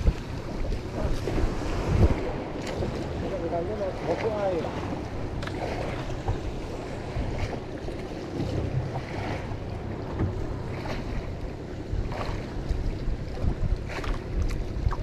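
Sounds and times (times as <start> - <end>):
sea washing: 0.0 - 15.0
wind buffeting microphone: 0.0 - 15.0.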